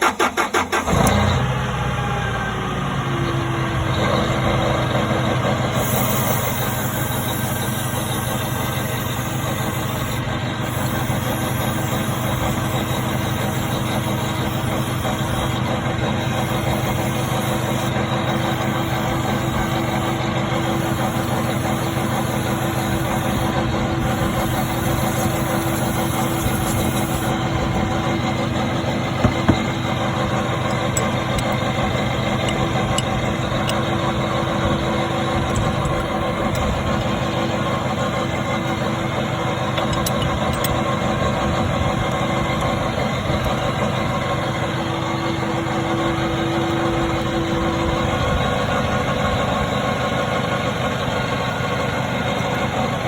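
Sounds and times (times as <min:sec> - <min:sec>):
forklift engine idling: 0:00.0 - 0:53.0.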